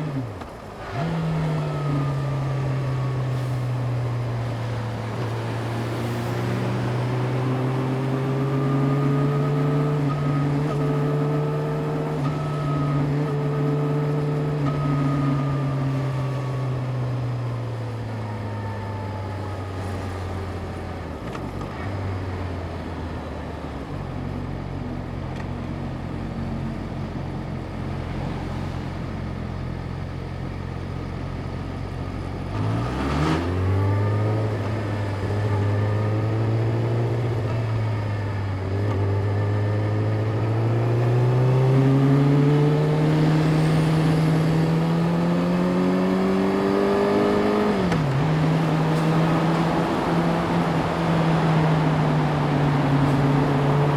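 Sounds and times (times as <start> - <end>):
motorcycle engine accelerating: 0.0 - 22.4, 25.1 - 53.9.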